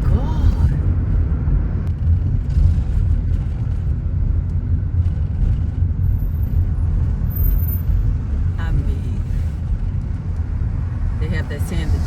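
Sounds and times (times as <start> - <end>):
car driving low rumble: 0.0 - 12.0.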